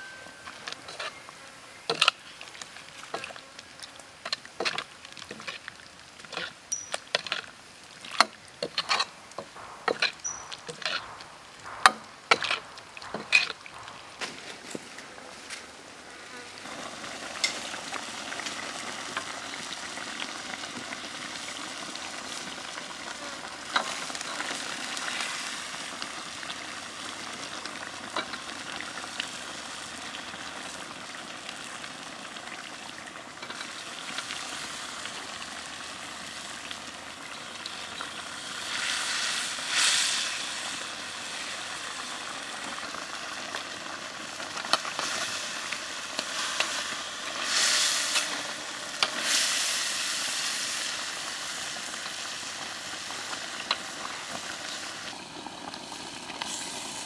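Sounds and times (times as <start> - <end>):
prawns sizzling in wok: 0.0 - 57.0.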